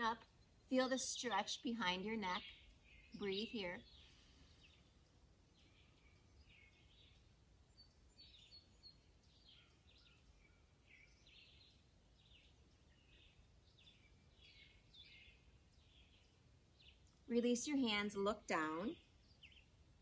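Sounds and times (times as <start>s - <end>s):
distant bird chirps: 0.0s - 20.0s.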